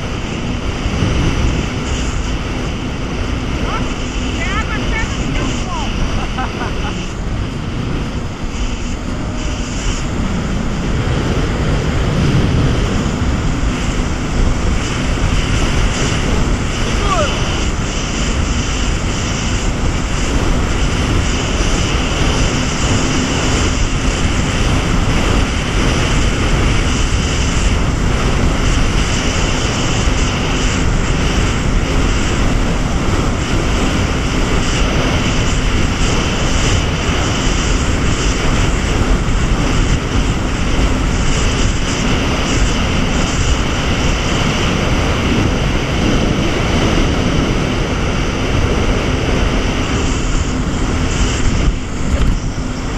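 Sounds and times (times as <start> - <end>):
jet ski engine drone: 0.0 - 52.9
water rushing and spray: 0.0 - 52.9.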